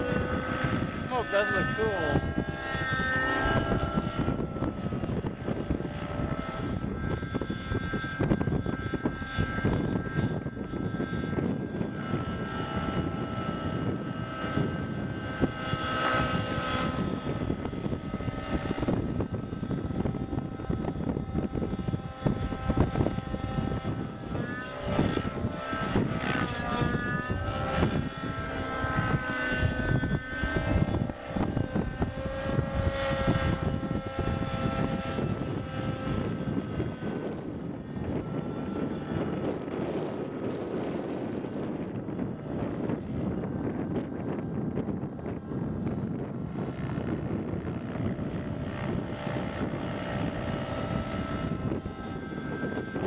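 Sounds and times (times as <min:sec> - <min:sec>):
low wind rumble: 0:00.0 - 0:53.0
rc helicopter motor whine: 0:00.0 - 0:53.0.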